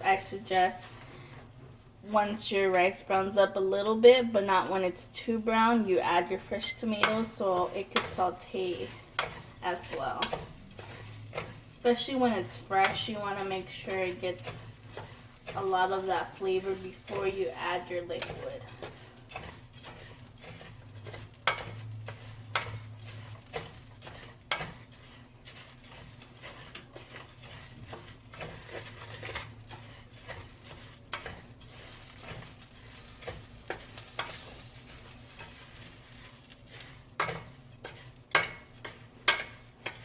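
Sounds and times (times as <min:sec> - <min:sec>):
rice and onions sizzling in oil: 0:00.0 - 0:40.0
utensil scraping and knocking pan: 0:04.3 - 0:40.0.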